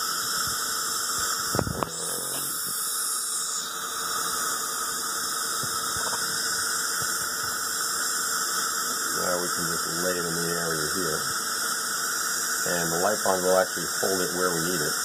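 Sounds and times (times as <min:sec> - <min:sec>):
saliva ejector suction hissing: 0:00.0 - 0:15.0.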